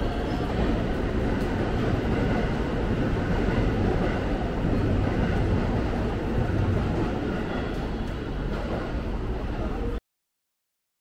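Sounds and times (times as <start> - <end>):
moving train rumbling: 0.0 - 10.0.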